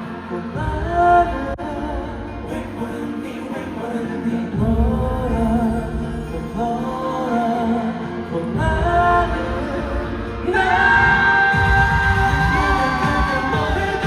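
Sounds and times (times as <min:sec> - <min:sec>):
live pop music over sound system: 0:00.0 - 0:14.0.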